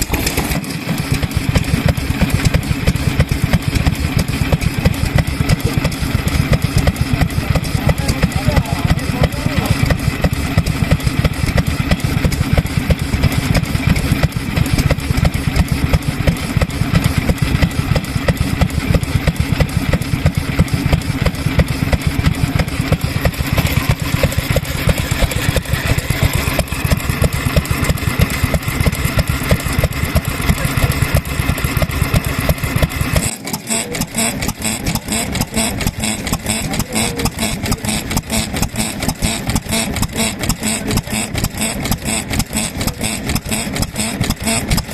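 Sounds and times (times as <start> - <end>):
single engine firing regularly: 0.0 - 44.9
stationary engines running unevenly: 0.0 - 44.9.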